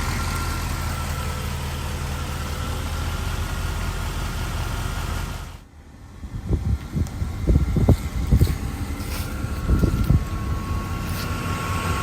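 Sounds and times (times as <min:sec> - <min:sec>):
engine running with knocking: 0:00.0 - 0:05.6, 0:06.6 - 0:12.0.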